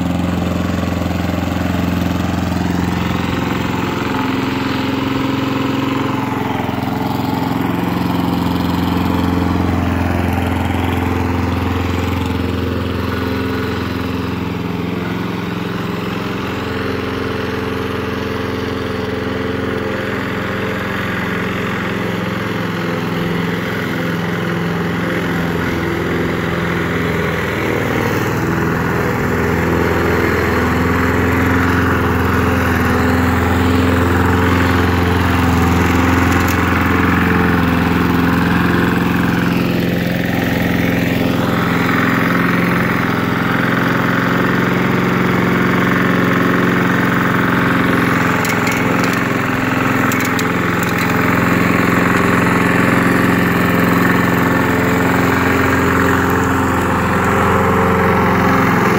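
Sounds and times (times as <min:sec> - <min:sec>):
lawn mower engine running: 0:00.0 - 0:58.9.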